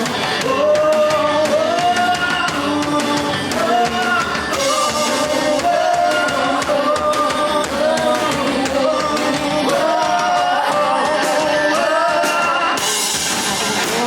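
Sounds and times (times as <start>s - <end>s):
drum kit with cymbals: 0.0s - 14.0s
guitars: 0.0s - 14.0s
person singing: 0.0s - 14.0s.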